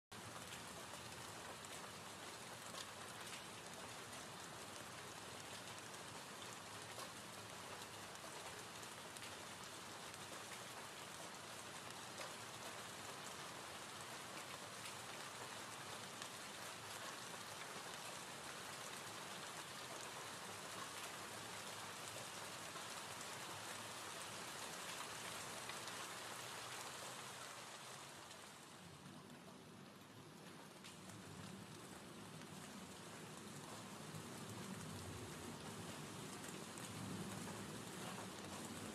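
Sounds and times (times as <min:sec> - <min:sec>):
raindrop ticks: 0:00.2 - 0:18.2, 0:24.6 - 0:38.9
rain hiss: 0:00.2 - 0:38.9.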